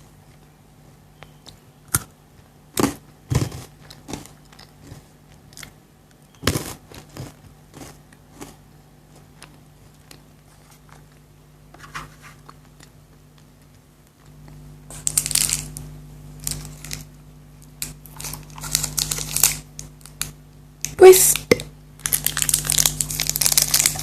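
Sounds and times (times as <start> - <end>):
chocolate crunching and chewing: 1.4 - 11.3, 12.4 - 20.9, 21.5 - 24.0.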